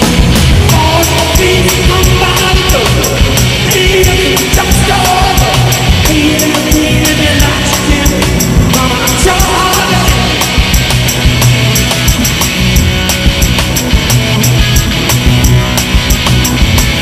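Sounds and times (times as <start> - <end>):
drum beat: 0.0 - 17.0
electric guitar strumming: 0.0 - 17.0.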